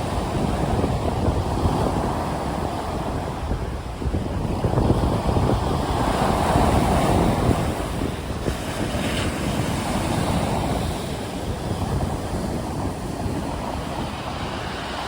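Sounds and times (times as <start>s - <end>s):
sea waves breaking: 0.0s - 15.0s
wind rumbling on microphone: 0.0s - 15.0s.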